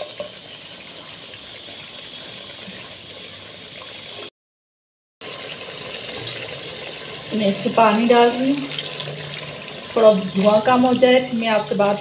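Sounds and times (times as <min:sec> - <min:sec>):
sauce sizzling and bubbling in pot: 0:00.0 - 0:04.3, 0:05.2 - 0:12.0.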